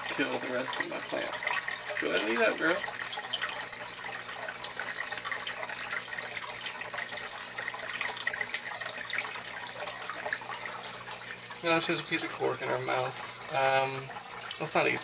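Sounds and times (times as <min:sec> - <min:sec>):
aquarium filter water pouring: 0:00.0 - 0:15.0
low steady hum: 0:00.0 - 0:15.0.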